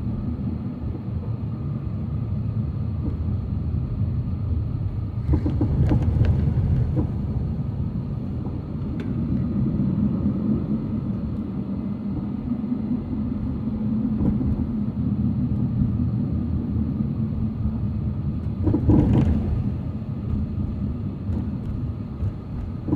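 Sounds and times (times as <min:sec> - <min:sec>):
heavy machinery engine rumble: 0:00.0 - 0:22.9.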